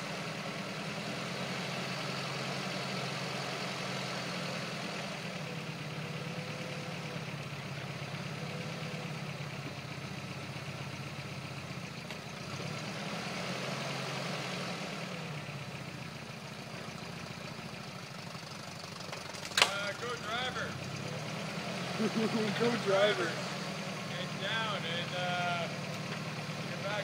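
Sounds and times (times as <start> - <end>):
pickup truck engine at low revs: 0.0 - 27.0.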